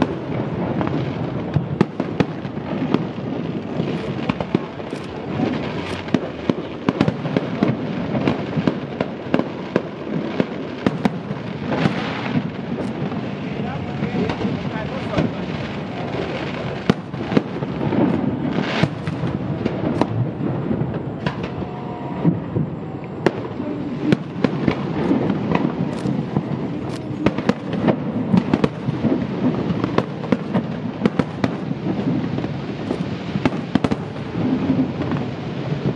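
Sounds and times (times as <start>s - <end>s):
fireworks booming: 0.0s - 35.9s
fireworks cracking and popping: 0.0s - 35.9s.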